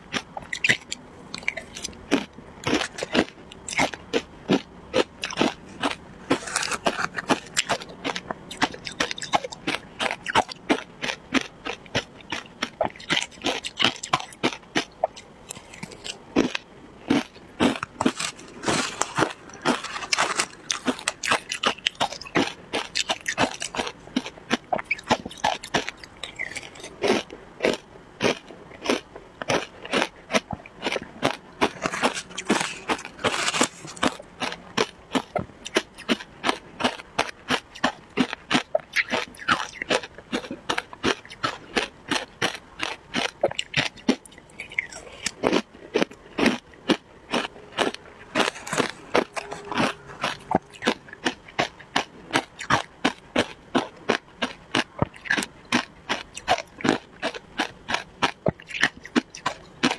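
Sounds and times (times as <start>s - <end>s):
crunching shaved ice: 0.1s - 59.9s.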